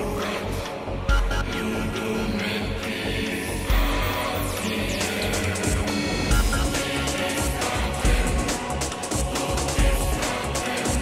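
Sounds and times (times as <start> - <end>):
dance-pop music: 0.0 - 11.0.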